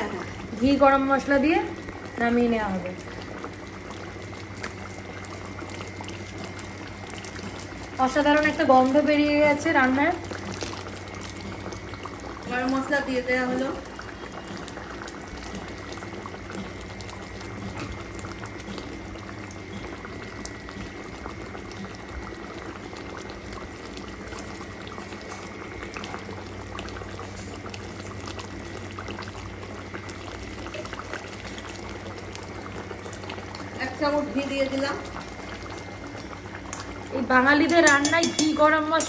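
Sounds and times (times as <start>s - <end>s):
curry bubbling with pops: 0.0s - 39.0s.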